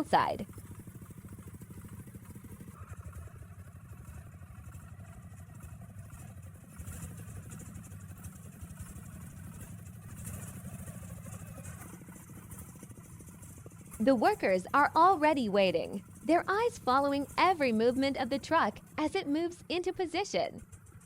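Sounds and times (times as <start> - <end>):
truck engine chugging: 0.0 - 21.0.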